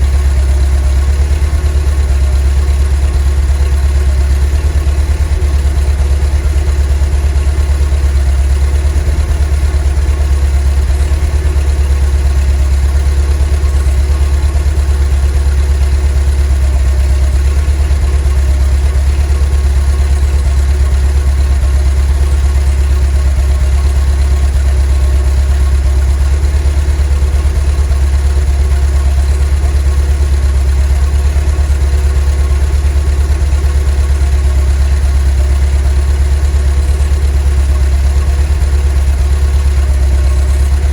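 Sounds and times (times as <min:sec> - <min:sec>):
van engine running steadily: 0:00.0 - 0:40.9.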